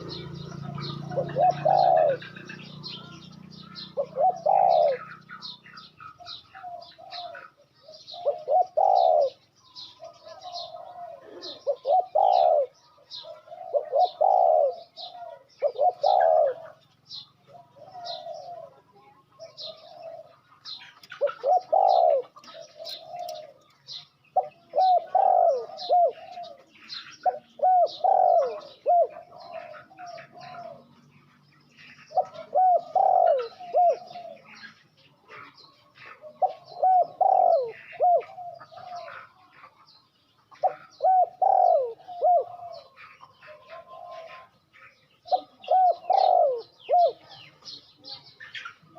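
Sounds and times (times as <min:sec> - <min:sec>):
dove cooing: 0:00.0 - 0:48.9
small birds chirping: 0:00.0 - 0:48.9.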